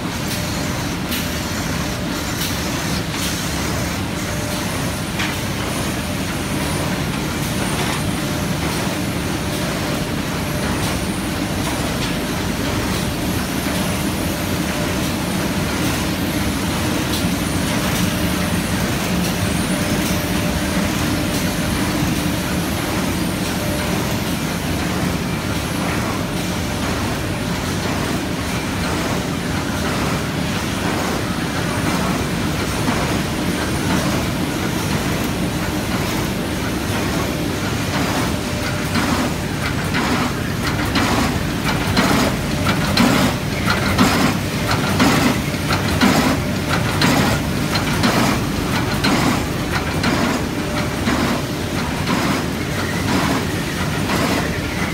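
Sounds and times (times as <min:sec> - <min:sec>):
machine mechanical hum: 0:00.0 - 0:54.9.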